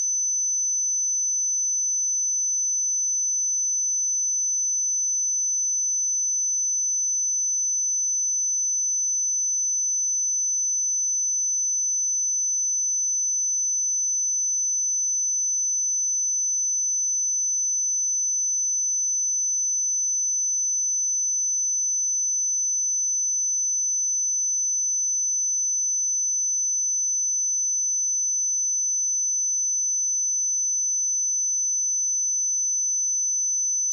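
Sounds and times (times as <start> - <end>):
high-pitched sine-wave test tone: 0.0 - 33.9.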